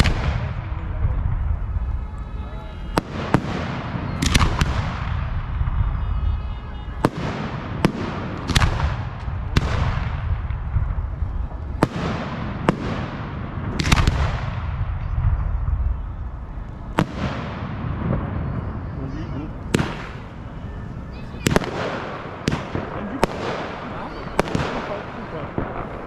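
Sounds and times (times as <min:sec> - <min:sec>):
fireworks bursting with crackle: 0:00.0 - 0:26.0
low rumble: 0:00.0 - 0:26.0.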